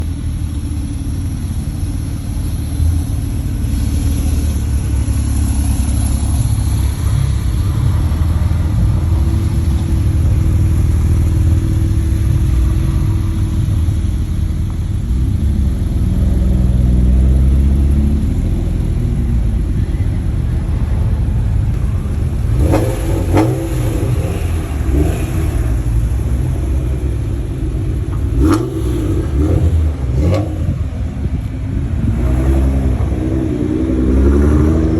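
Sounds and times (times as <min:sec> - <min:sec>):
low exhaust rumble: 0:00.0 - 0:34.9
sports car engines revving: 0:00.0 - 0:34.9.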